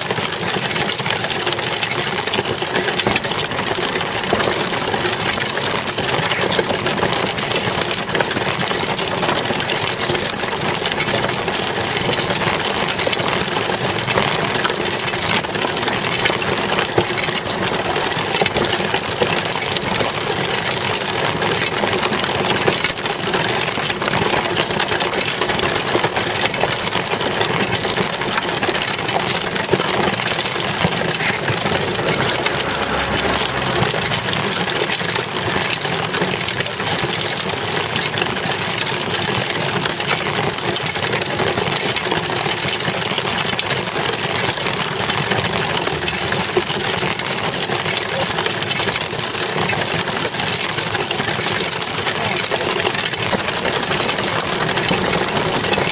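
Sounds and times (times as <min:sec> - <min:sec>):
bicycle tyres on rough asphalt: 0:00.0 - 0:55.9.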